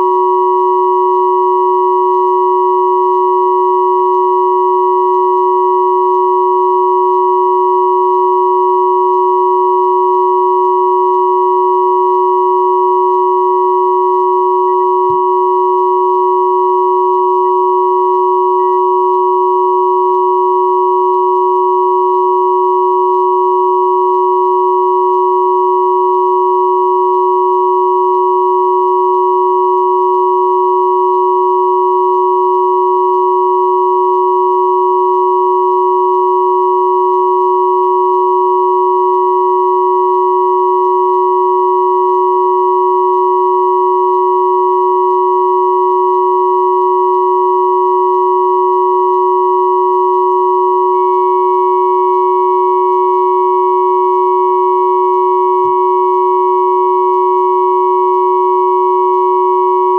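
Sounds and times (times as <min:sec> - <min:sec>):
steady sine tones: 0:00.0 - 0:59.9.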